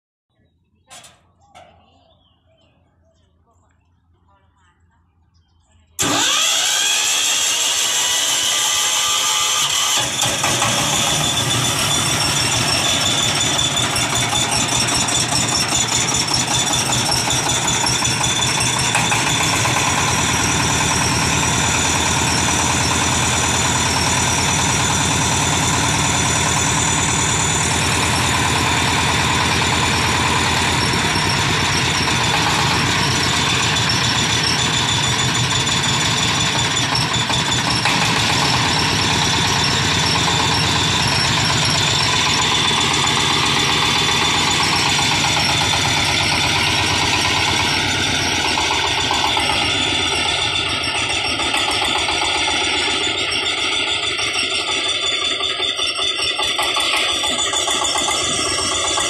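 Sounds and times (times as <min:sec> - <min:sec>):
diesel engine chugging: 0:00.4 - 0:59.0
electric starter cranking: 0:06.0 - 0:59.0.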